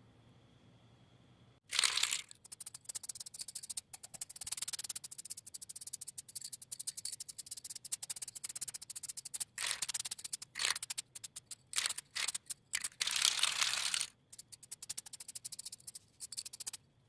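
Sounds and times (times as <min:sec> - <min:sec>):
spray can ball rattling: 0:01.7 - 0:16.8.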